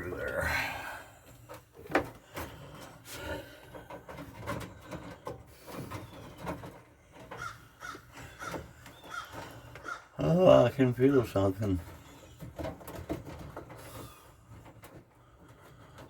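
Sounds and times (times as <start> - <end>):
knocks taps and scrapes of tools: 1.2 - 10.0, 11.0 - 16.0.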